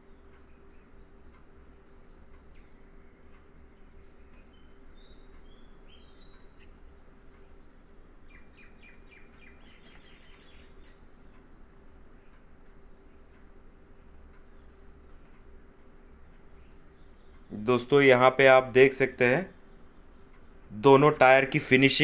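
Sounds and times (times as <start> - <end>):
faint bird chirps: 0.0 - 15.4, 16.4 - 18.0, 19.5 - 20.8
steady low hum: 0.0 - 22.0.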